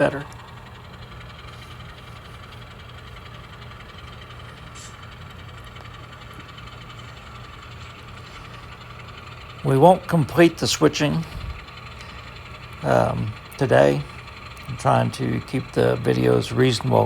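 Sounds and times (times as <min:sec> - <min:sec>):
model train motor humming: 0:00.0 - 0:17.0.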